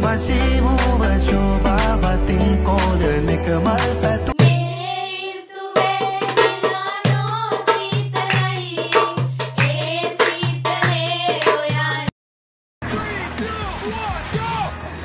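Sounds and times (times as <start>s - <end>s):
song with vocals and drums: 0.0s - 12.1s.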